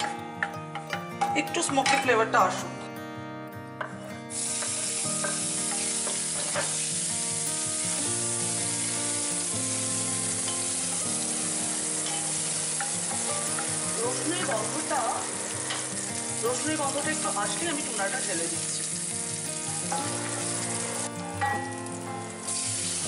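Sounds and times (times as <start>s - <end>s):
garlic sizzling in hot oil: 4.3s - 23.0s.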